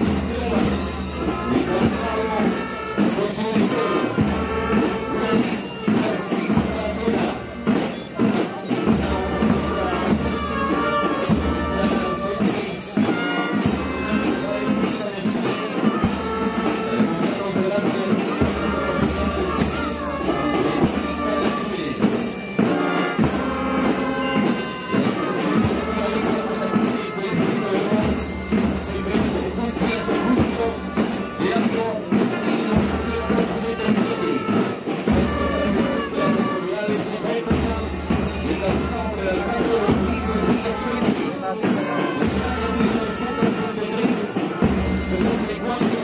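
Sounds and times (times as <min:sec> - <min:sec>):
marching music: 0:00.0 - 0:46.0.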